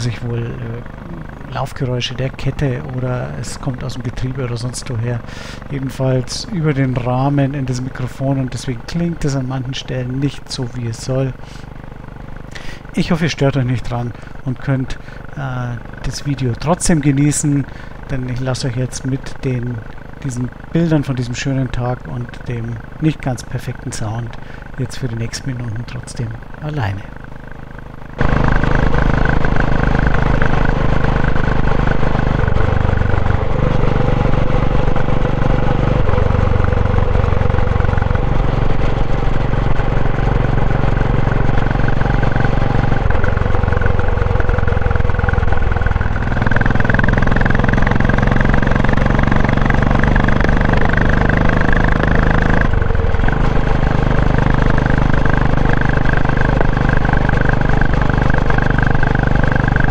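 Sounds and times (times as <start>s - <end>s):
mechanical running noise: 0.0s - 59.9s
motorcycle engine running: 0.0s - 59.9s.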